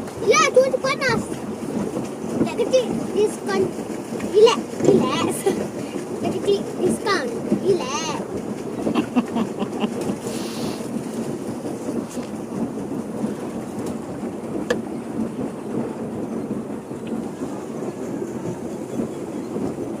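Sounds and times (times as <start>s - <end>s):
paddle wheel churning water: 0.0s - 20.0s.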